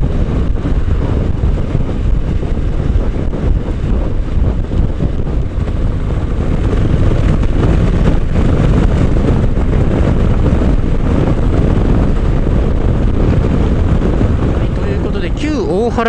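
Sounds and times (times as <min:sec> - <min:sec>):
motorcycle engine drone: 0:00.0 - 0:16.0
wind rushing over microphone: 0:00.0 - 0:16.0.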